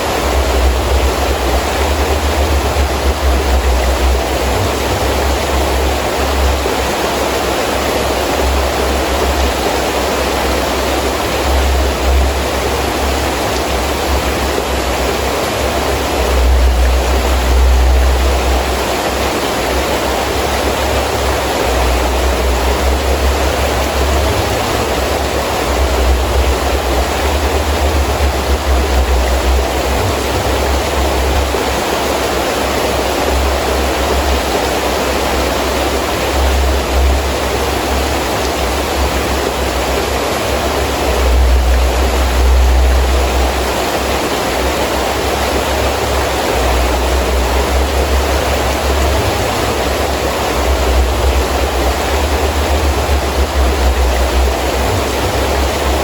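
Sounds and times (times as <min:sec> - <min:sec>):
deep rumble of wind gusts: 0:00.0 - 0:56.0
heavy rain falling: 0:00.0 - 0:56.0.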